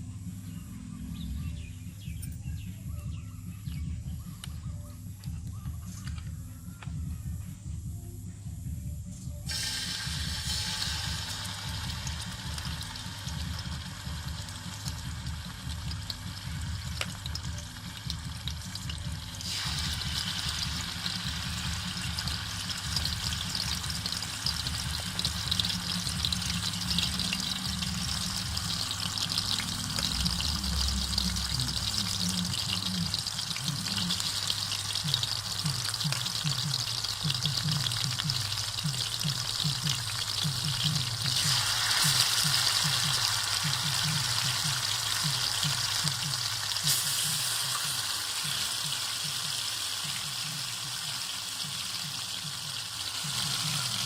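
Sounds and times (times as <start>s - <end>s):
low steady hum: 0.0s - 46.4s
hot oil sizzling: 9.5s - 54.0s.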